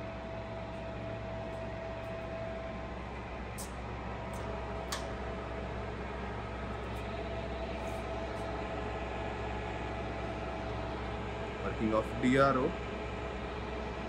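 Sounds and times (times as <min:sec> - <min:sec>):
milling machine humming with whine: 0:00.0 - 0:14.0.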